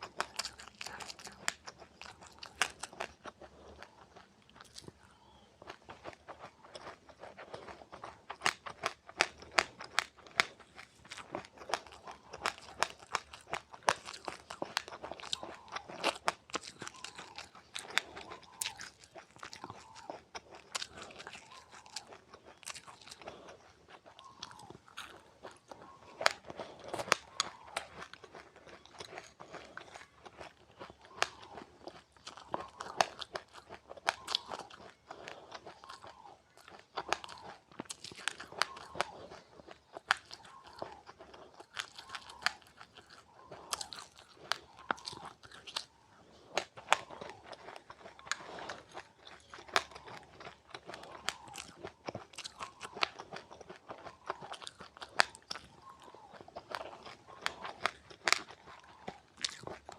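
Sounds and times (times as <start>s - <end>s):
crunchy seeds chewing: 0.0s - 59.9s.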